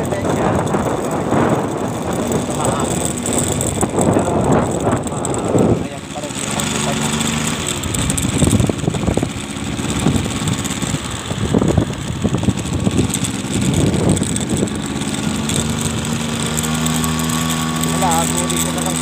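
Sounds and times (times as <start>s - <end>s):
wind buffeting microphone: 0.0s - 17.3s
vehicle engine running: 0.0s - 19.0s.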